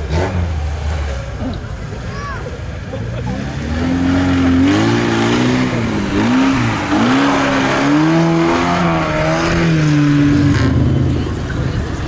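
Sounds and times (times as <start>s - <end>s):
engine revving under load: 0.0s - 2.0s, 3.2s - 12.0s.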